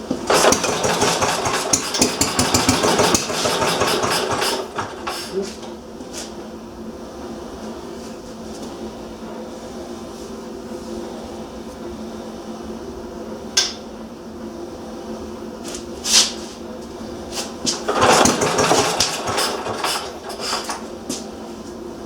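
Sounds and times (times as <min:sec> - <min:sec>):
engine running with hum: 0:00.0 - 0:09.7, 0:11.1 - 0:22.0.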